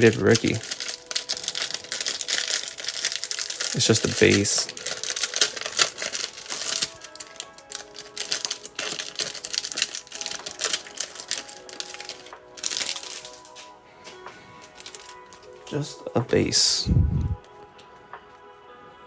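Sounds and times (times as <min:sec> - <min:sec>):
background music with held notes: 0:00.0 - 0:19.0.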